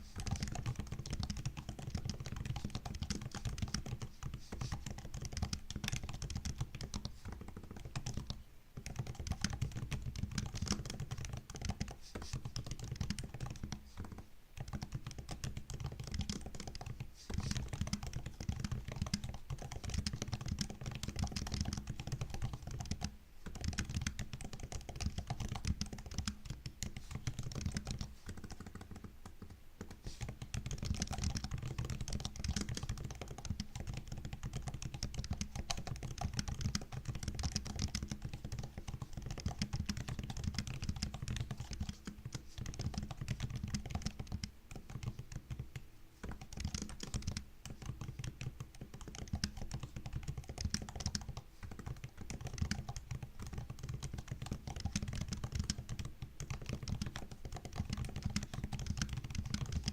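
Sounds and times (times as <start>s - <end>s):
laptop keyboard typing: 0.0s - 59.9s.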